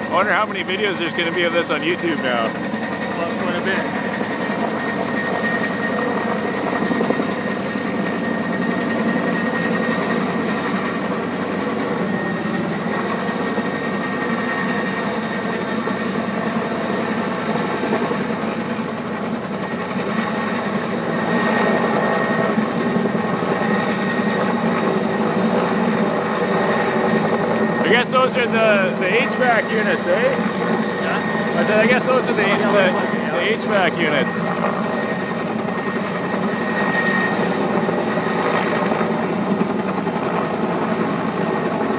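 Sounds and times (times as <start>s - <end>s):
helicopter rotor and engine: 0.0s - 41.9s.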